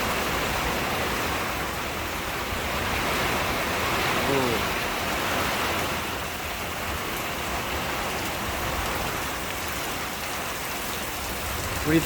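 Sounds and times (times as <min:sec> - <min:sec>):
heavy rain on a metal roof: 0:00.0 - 0:12.0.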